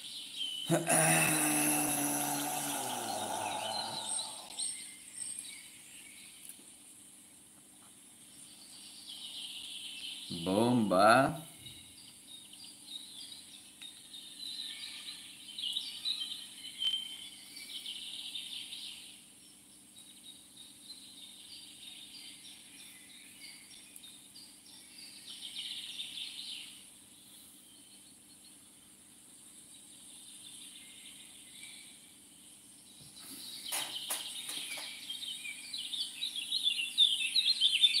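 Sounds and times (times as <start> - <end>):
songbirds singing and chirping: 0.0 - 38.0.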